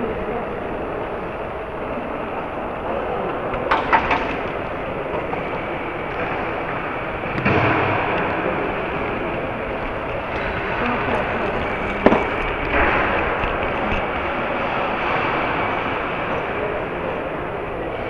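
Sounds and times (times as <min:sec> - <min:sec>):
moving train running noise: 0:00.0 - 0:18.0.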